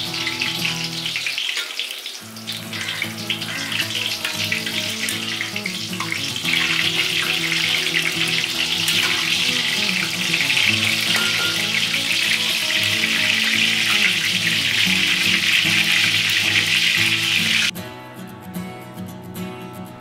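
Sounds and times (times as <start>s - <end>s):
food sizzling in hot oil: 0.0s - 17.7s
background music: 2.4s - 20.0s.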